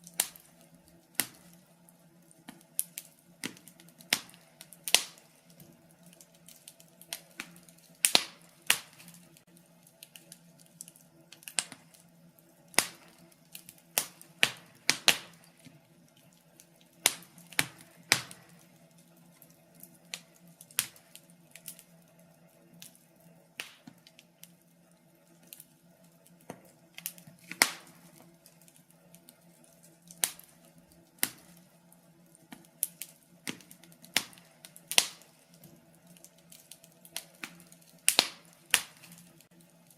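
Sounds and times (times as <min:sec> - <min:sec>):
burning logs popping and snapping: 0:00.0 - 0:39.9
faint steady hum: 0:00.0 - 0:39.9.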